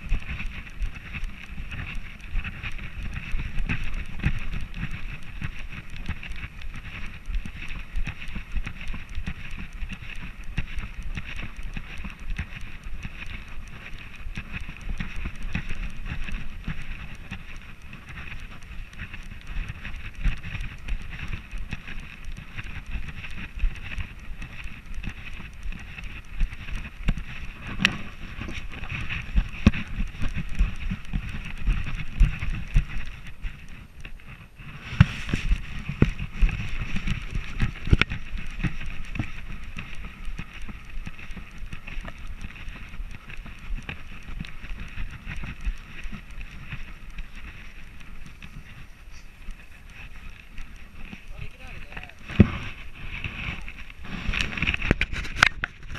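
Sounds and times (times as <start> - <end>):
wind on microphone: 0.0 - 55.9.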